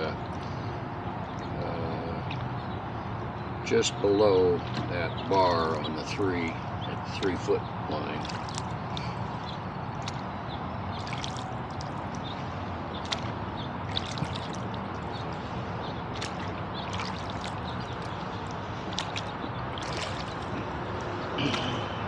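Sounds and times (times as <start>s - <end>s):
road traffic drone: 0.0s - 22.0s
water drips and small splashes: 0.0s - 22.0s.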